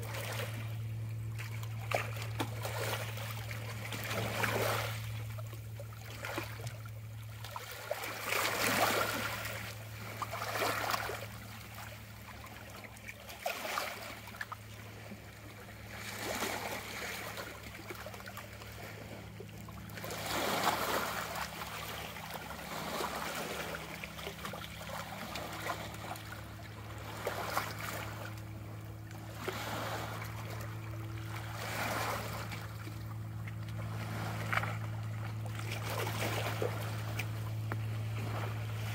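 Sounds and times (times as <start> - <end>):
steady low hum: 0.0 - 38.9
waves lapping against rocks: 0.0 - 38.9.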